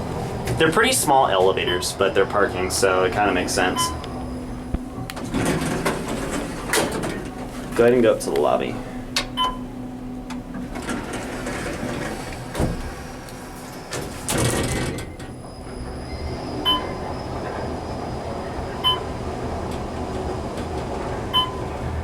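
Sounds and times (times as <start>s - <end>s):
elevator low rumble: 0.0s - 22.0s.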